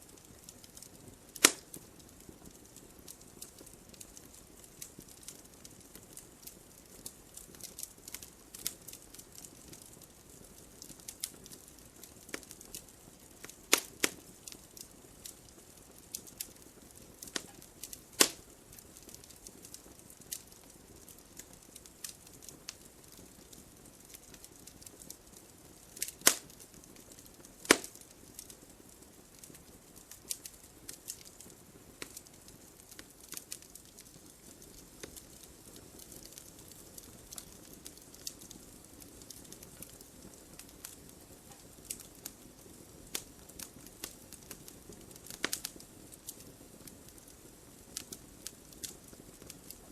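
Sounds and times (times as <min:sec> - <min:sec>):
wood fire crackling: 0:00.0 - 0:49.9
loud fire pops: 0:00.2 - 0:49.9.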